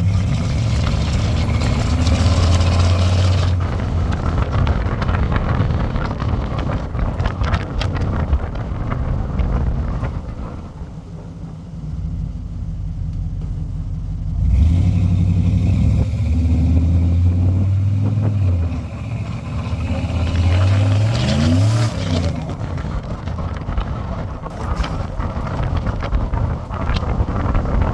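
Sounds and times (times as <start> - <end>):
pickup truck engine revving: 0.0 - 27.9.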